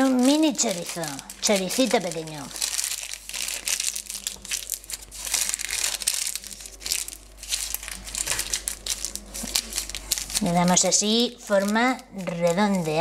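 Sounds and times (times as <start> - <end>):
baking paper crinkling: 0.0 - 13.0.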